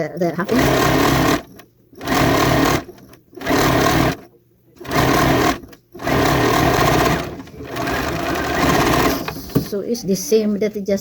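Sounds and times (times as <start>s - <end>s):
electric sewing machine stitching: 0.4s - 9.5s.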